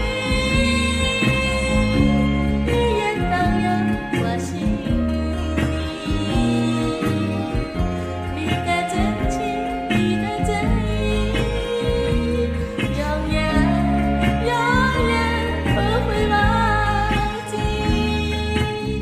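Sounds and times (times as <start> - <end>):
instrumental backing track: 0.0 - 19.0
person singing a slow ballad: 0.0 - 19.0.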